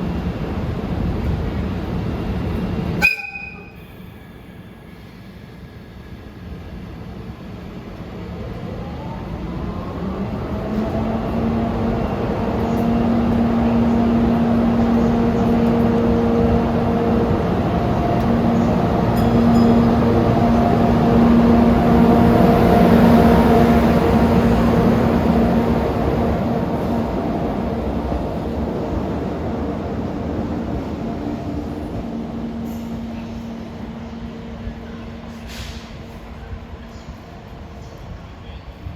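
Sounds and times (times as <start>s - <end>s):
electric locomotive passing: 0.0s - 38.9s.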